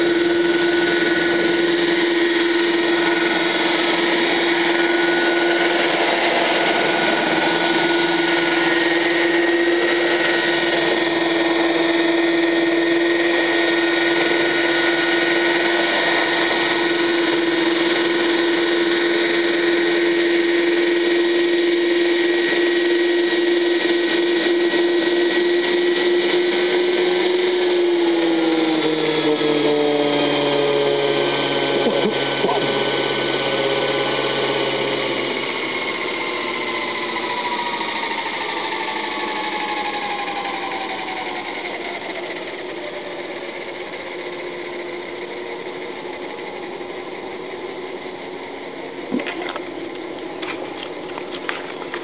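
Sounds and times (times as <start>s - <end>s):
model helicopter rotor whine: 0.0s - 52.0s.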